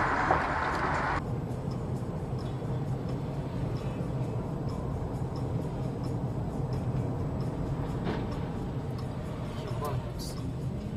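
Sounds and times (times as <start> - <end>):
car engine and tyres rumbling: 0.0 - 10.9.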